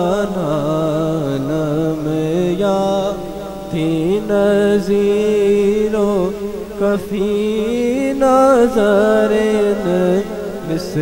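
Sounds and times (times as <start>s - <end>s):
man singing devotional verse: 0.0s - 11.0s.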